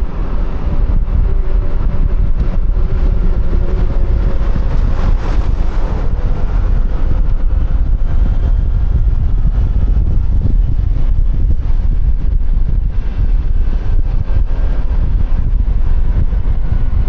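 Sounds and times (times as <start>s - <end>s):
road noise: 0.0s - 17.0s
scooter engine hum: 0.0s - 17.0s
wind buffeting microphone: 0.0s - 17.0s.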